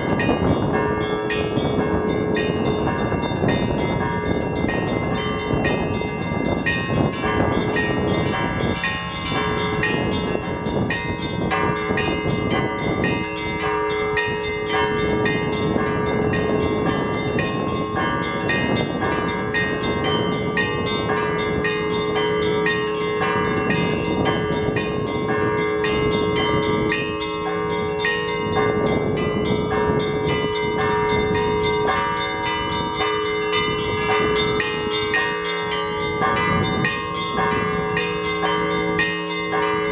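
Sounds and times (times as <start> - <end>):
large church bells ringing: 0.0 - 39.9
small church bells ringing rapidly: 0.0 - 39.9
wind rumble on microphone: 0.0 - 39.9.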